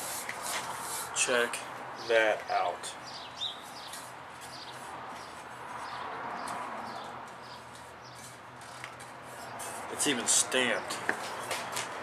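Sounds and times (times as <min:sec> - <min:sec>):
small birds chirping: 0:02.0 - 0:11.8.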